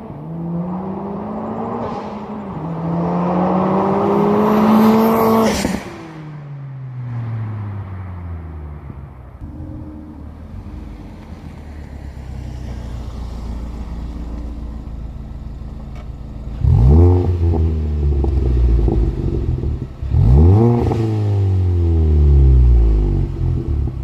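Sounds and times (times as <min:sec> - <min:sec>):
turbocharged car engine revving: 0:00.0 - 0:06.2, 0:09.4 - 0:24.0.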